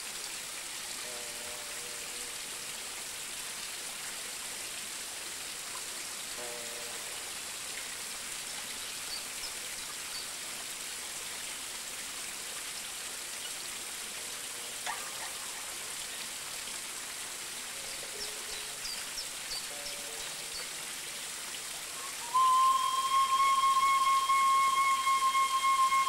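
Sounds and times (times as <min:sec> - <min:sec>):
hiss of water: 0:00.0 - 0:26.0.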